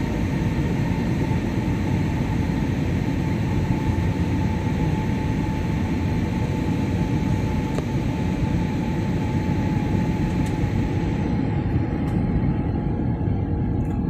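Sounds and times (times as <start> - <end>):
airliner cabin rumble: 0.0 - 14.0
thin steady whine: 0.0 - 14.0.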